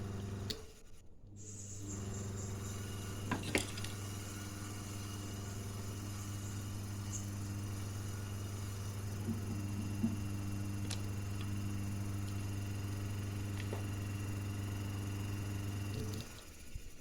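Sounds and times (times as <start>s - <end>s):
cooling fan motor humming: 0.0s - 0.7s, 1.3s - 17.0s.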